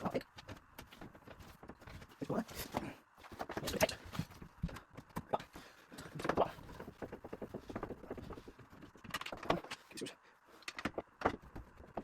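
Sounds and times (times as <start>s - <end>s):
tools knocking and clattering: 0.0s - 10.0s.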